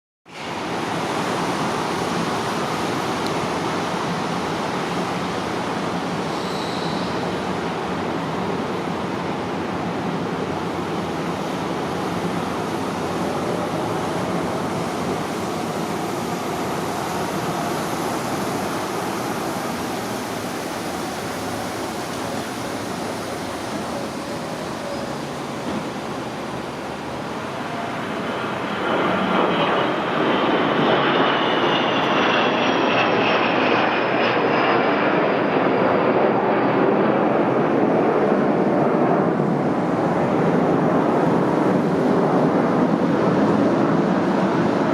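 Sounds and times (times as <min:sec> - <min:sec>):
jet engine roar: 0:00.3 - 0:44.9.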